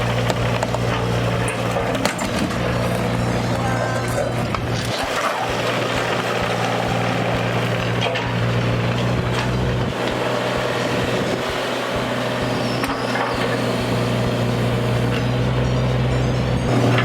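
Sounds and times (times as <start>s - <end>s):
excavator diesel engine: 0.0s - 17.0s.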